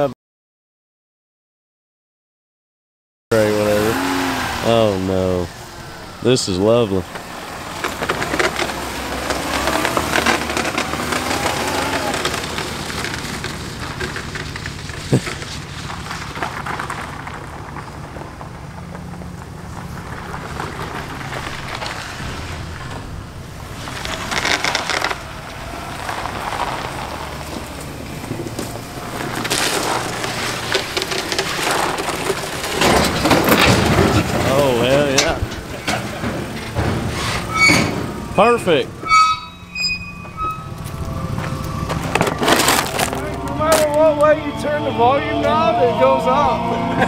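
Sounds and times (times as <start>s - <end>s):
car engine running low: 3.3s - 47.0s
crunching and crackling: 4.7s - 38.9s, 40.3s - 44.5s.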